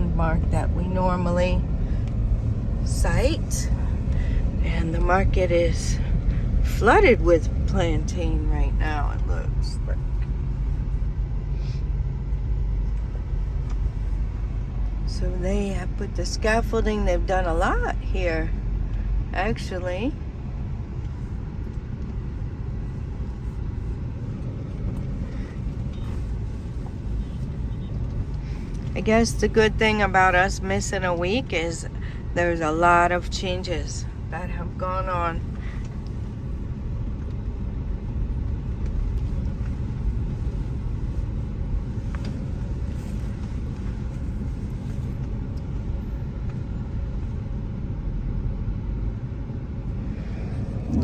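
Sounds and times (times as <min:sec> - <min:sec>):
car engine noise: 0:00.0 - 0:51.0
road rumble inside car: 0:00.0 - 0:51.0.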